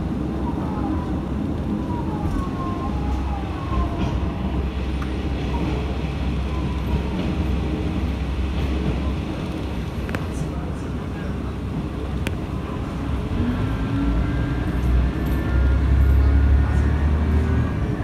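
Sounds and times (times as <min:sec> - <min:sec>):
railcar engine and wheels rumbling: 0:00.0 - 0:18.0.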